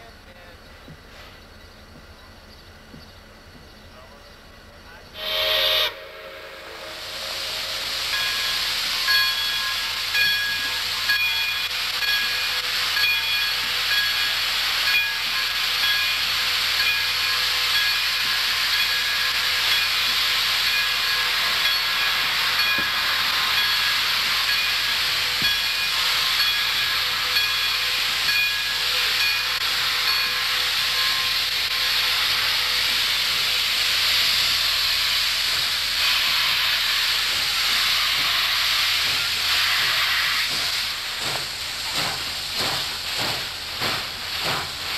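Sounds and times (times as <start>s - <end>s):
steam hissing from locomotive: 0.0s - 1.9s, 4.9s - 44.9s.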